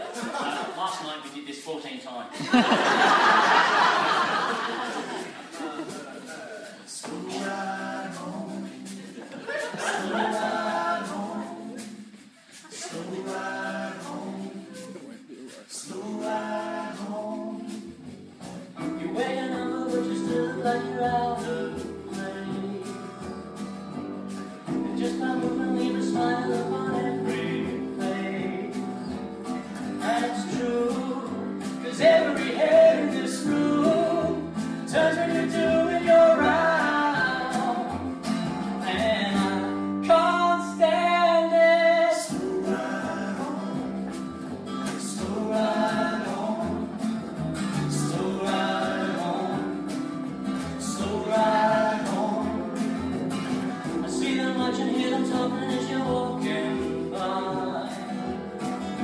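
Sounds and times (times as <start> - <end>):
voices singing in harmony: 2.5 - 23.6, 24.3 - 39.0, 41.5 - 47.2, 47.9 - 50.0, 50.6 - 59.0
instrumental backing: 2.6 - 59.0.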